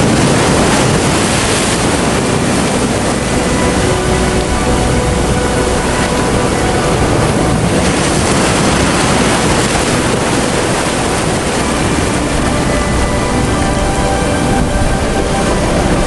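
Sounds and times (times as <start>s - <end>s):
floodwater rushing: 0.0s - 16.0s
wind: 0.0s - 16.0s.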